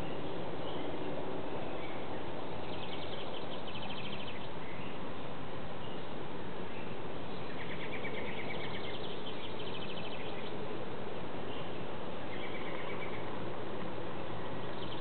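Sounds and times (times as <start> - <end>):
songbirds trilling: 0.0 - 13.5, 14.5 - 15.0
steady background hiss: 0.0 - 15.0.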